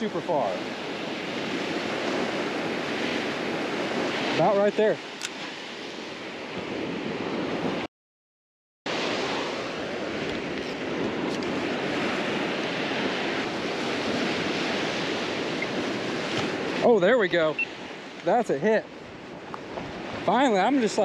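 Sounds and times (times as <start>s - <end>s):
surf breaking on a beach: 0.0s - 7.9s, 8.9s - 21.0s
wind on microphone: 0.0s - 7.9s, 8.9s - 18.2s, 18.8s - 21.0s.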